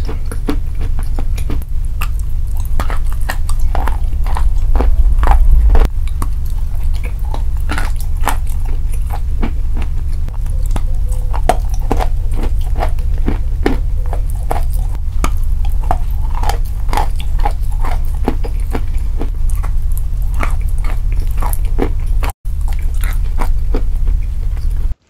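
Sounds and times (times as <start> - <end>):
crunching and chewing: 0.0 - 25.0
steady low hum: 0.0 - 25.0.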